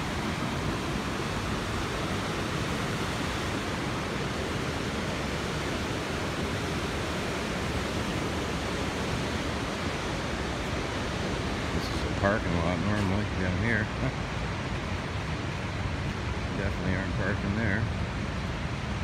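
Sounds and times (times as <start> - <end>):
whitewater rushing over falls: 0.0 - 19.0.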